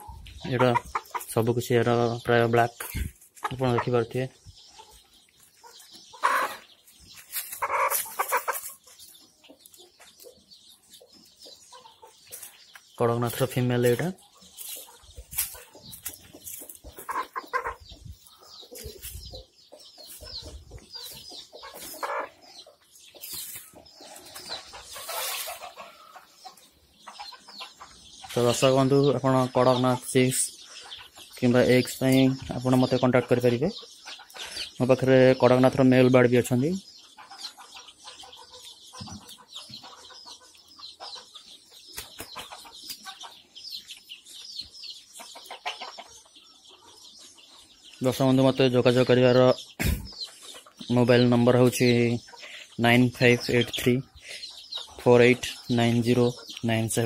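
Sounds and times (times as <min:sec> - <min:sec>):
chickens clucking: 0:00.0 - 0:57.0
chicks peeping: 0:00.0 - 0:57.0.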